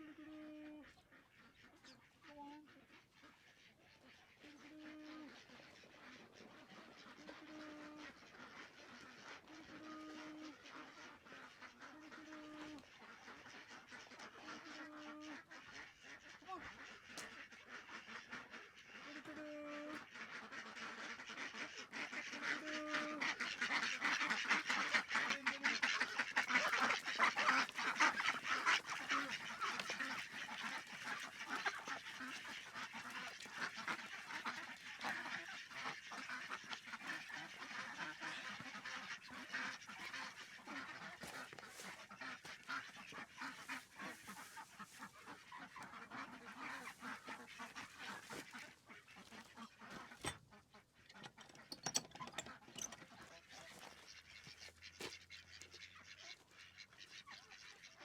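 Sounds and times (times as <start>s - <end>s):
ducks quacking: 0.0s - 58.0s.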